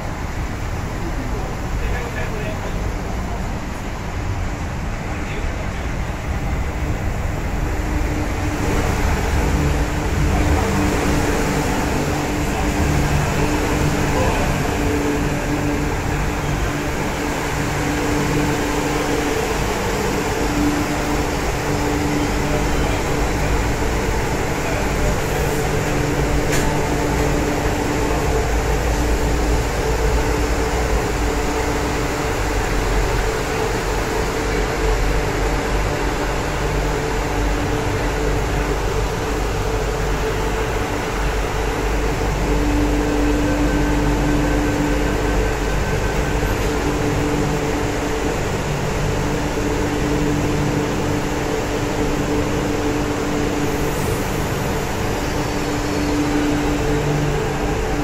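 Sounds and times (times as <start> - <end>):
electric train humming: 0.0 - 58.0
passengers talking: 0.0 - 58.0.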